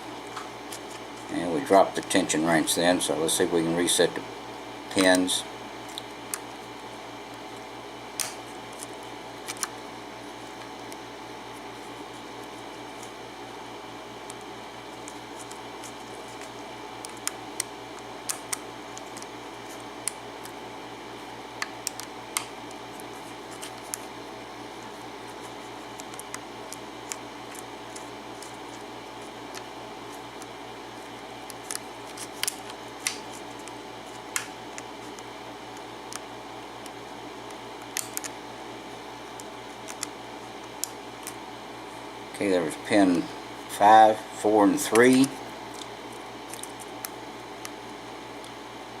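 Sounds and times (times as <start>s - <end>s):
steady background hum: 0.0s - 49.0s.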